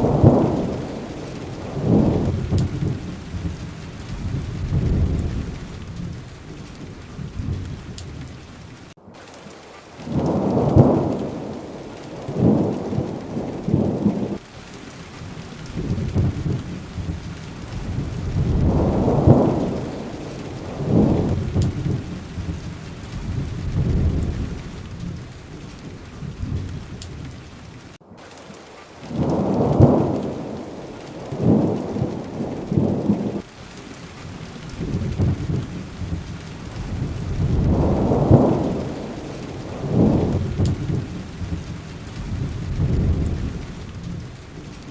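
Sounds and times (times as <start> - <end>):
rolling thunder: 0.0 - 8.8, 10.0 - 14.4, 15.1 - 27.8, 29.0 - 44.9
steady rain falling: 0.0 - 44.9.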